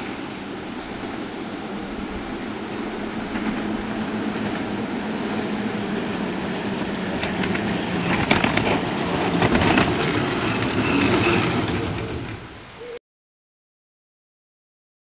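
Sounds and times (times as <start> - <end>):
steel wheels rumbling on rail: 0.0 - 12.8.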